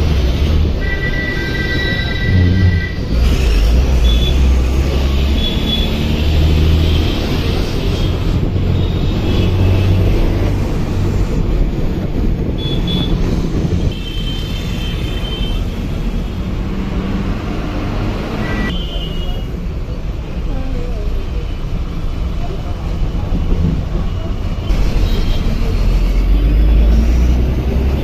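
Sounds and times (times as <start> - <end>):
bus engine rumbling: 0.0 - 28.0
road noise: 0.0 - 28.0.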